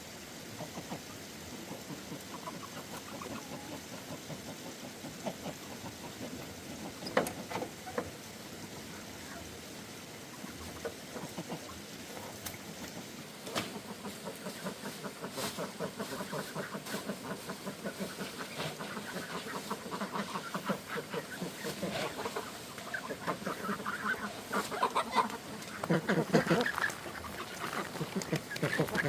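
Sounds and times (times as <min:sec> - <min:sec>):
fowl clucking: 0:00.6 - 0:08.1, 0:10.6 - 0:29.0.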